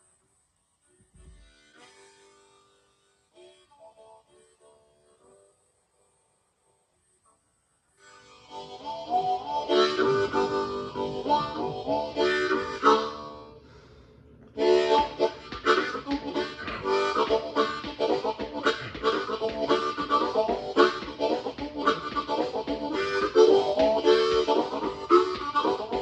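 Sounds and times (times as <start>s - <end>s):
harmonica playing: 1.4s - 6.3s, 8.0s - 14.0s, 14.6s - 26.0s.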